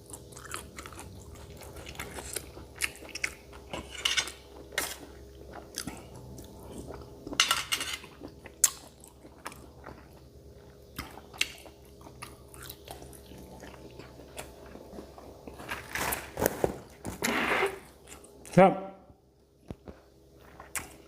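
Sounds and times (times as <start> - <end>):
person chewing crunchy food: 0.0 - 17.1, 19.6 - 21.0.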